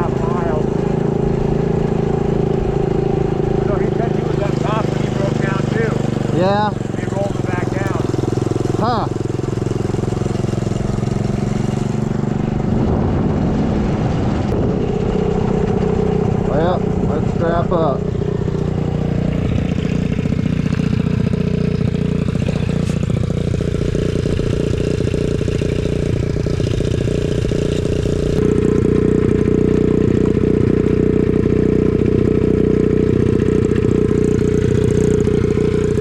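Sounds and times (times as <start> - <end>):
small engine idling: 0.0 - 12.8, 14.1 - 36.0.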